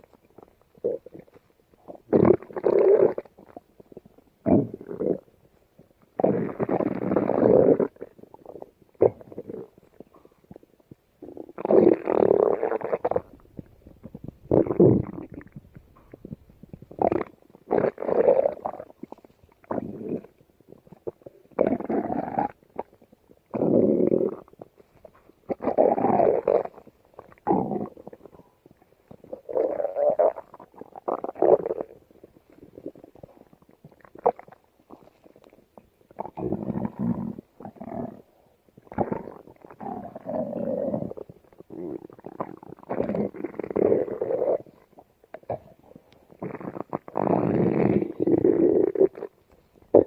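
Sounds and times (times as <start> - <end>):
stomach growling: 0.0 - 50.0.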